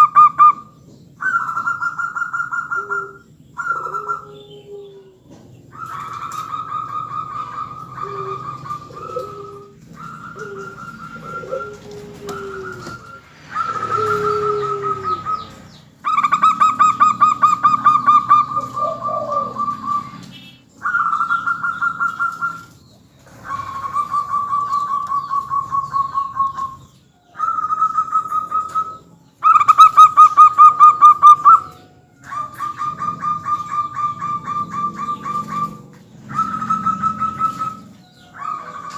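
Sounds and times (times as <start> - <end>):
doves cooing trills: 0.0 - 38.9.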